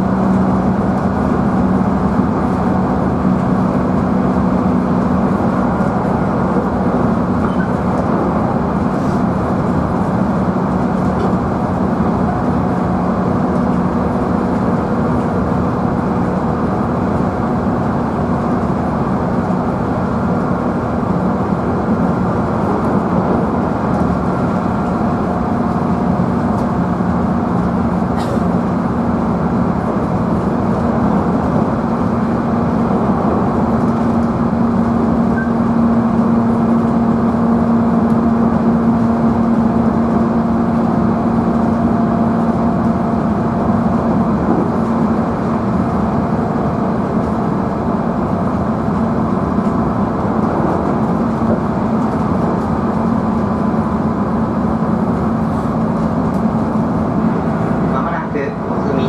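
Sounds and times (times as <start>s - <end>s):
electric train motor hum: 0.0s - 59.0s
rail and wheel noise: 0.0s - 59.0s.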